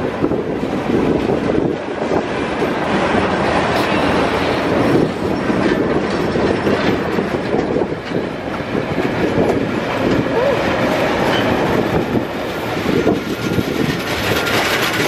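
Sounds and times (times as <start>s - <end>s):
train rolling on rails: 0.0s - 15.0s
wheels clattering: 0.0s - 15.0s.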